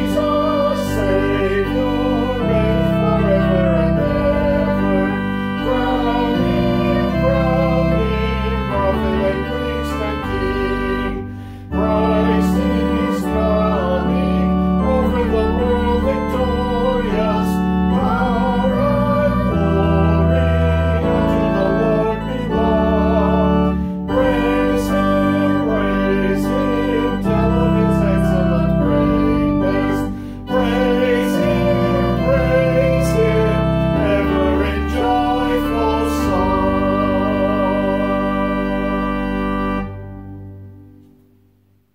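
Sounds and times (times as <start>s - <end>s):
organ playing a hymn: 0.0s - 41.7s.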